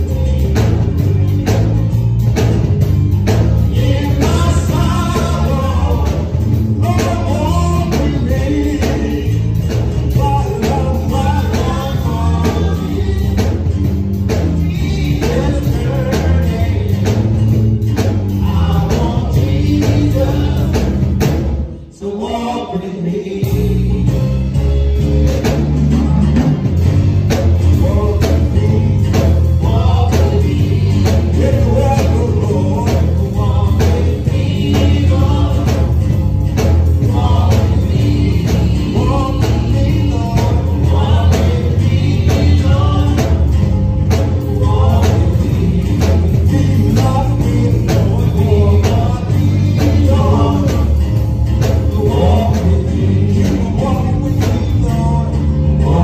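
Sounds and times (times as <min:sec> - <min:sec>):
instrumental backing with heavy bass: 0:00.0 - 0:56.0
choir singing into microphones: 0:03.4 - 0:24.2, 0:27.7 - 0:56.0.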